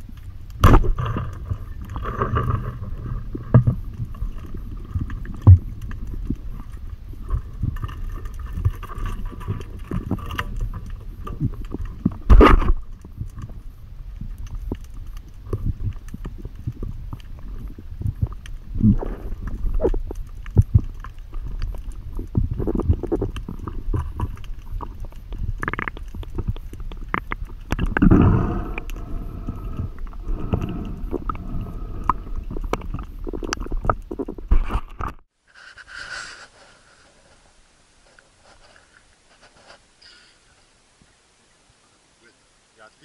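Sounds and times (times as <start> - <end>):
underwater rumble of moving water: 0.0 - 35.1
underwater clicks and gurgles: 0.0 - 41.8.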